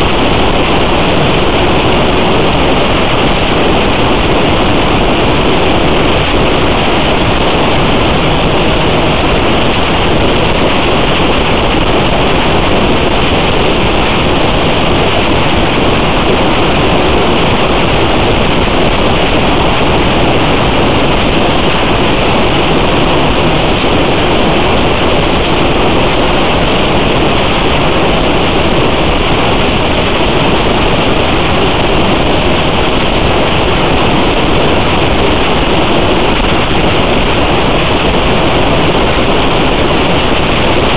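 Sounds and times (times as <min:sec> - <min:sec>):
steady rushing hiss: 0:00.0 - 0:40.9.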